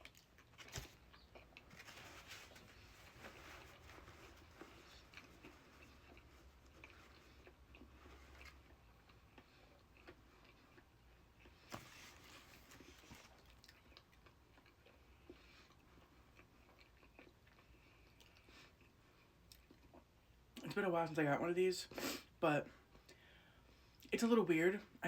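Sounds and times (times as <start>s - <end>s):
chewing and biting food: 0.0s - 20.1s.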